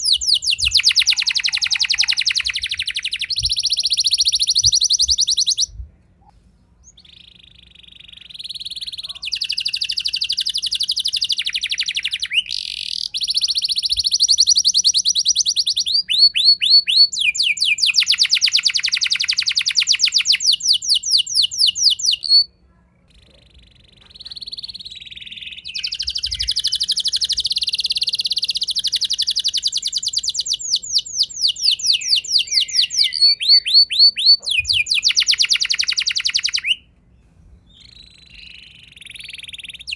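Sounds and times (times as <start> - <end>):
canary singing trills: 0.0 - 5.8, 6.8 - 22.5, 23.1 - 36.9, 37.7 - 39.9.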